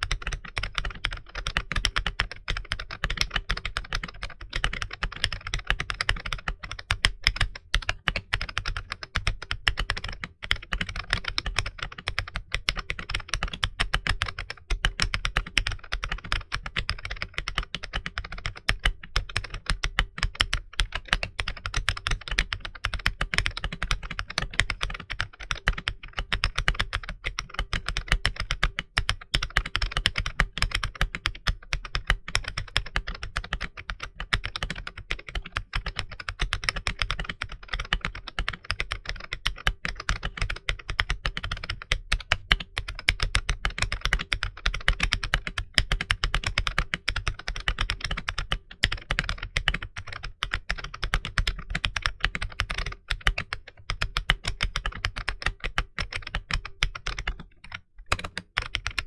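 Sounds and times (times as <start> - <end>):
fast mechanical keyboard typing: 0.0 - 59.0.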